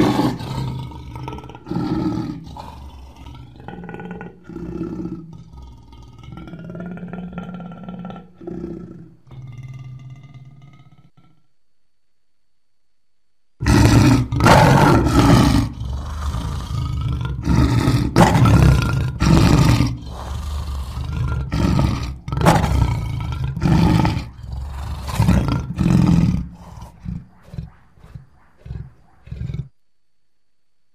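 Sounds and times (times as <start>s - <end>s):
lion roaring and grunting: 0.0s - 11.4s, 13.6s - 29.8s.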